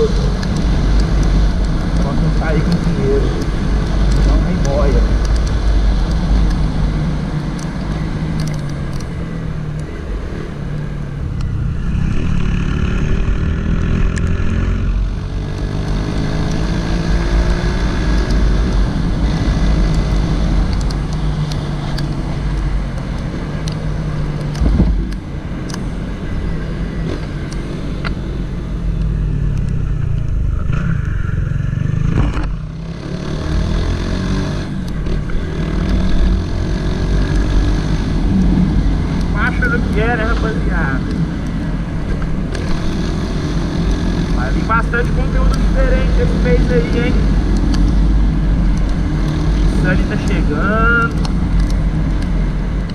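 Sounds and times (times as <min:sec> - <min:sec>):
motorcycle engine accelerating: 0:00.0 - 0:25.2, 0:26.2 - 0:52.9.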